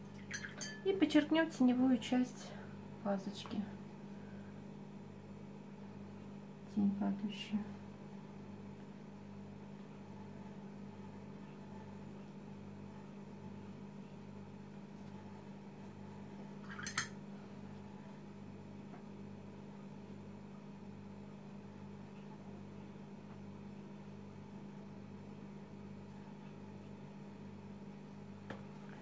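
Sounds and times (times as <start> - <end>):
faint pulsing low hum: 0.0 - 29.0.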